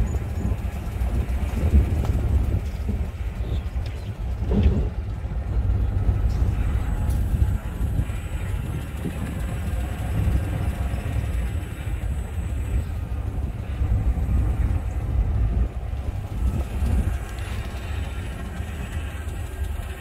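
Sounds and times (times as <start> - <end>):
car engine and road rumble: 0.0 - 20.0
low buffeting: 0.0 - 20.0.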